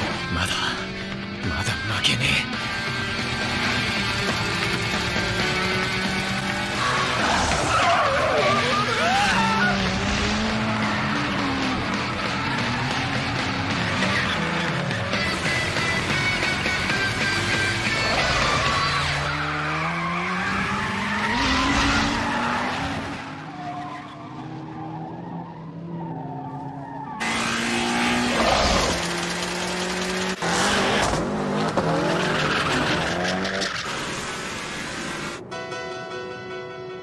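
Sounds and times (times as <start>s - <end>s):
racing car engines revving: 0.0s - 35.4s.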